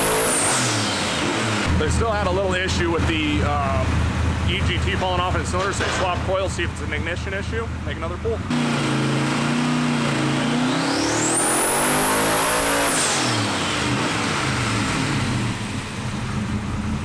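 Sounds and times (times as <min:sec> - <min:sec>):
car engine revving with whine: 0:00.0 - 0:17.0.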